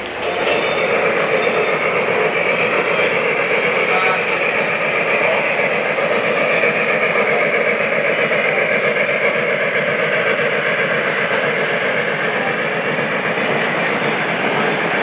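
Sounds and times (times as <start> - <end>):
model trains rolling on track: 0.0 - 15.0.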